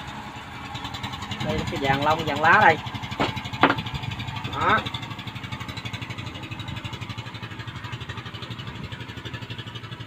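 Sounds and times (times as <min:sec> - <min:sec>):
brush cutter engine idling: 0:01.1 - 0:10.0.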